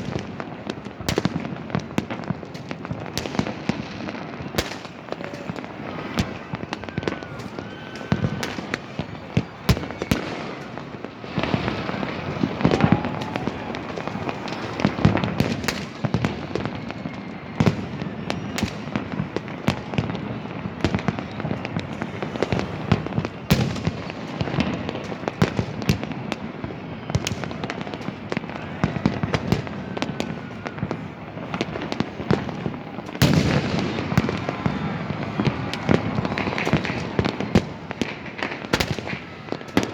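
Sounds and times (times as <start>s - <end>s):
fireworks bangs and crackles: 0.0s - 39.9s
rocket whistle: 4.6s - 24.6s, 26.6s - 39.9s.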